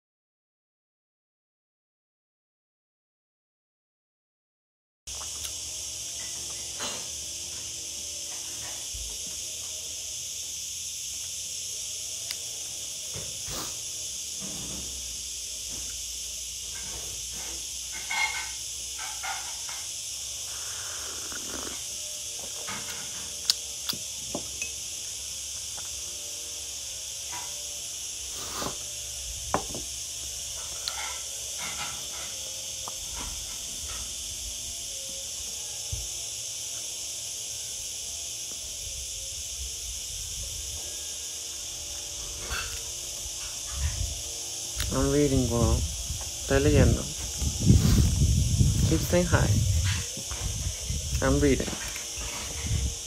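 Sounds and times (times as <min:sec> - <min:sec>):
steady high-pitched hiss: 0:05.1 - 0:53.0.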